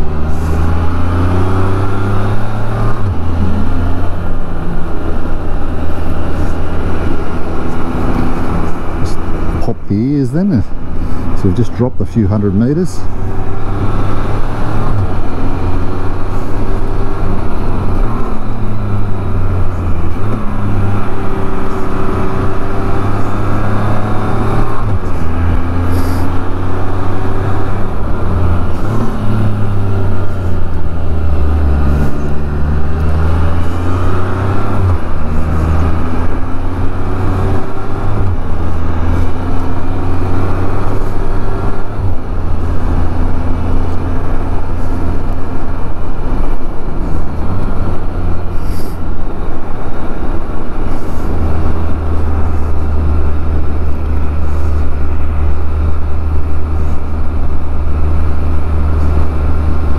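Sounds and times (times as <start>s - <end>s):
three-wheeler engine running: 0.0s - 59.9s
wind and road noise: 0.0s - 59.9s.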